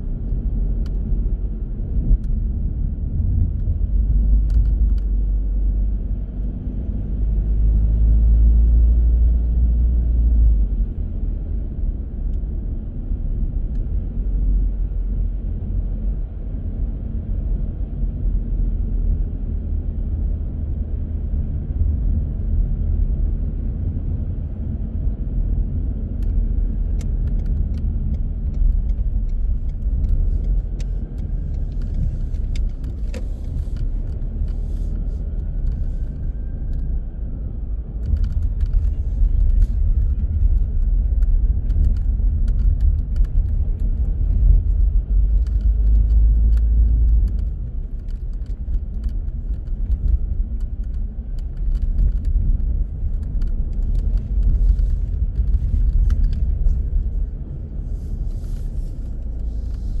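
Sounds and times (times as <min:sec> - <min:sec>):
car road and engine rumble: 0:00.0 - 1:00.0.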